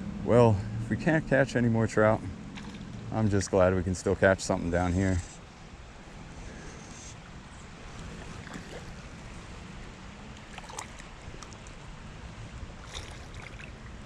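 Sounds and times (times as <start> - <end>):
creek water flowing: 0.0 - 14.0.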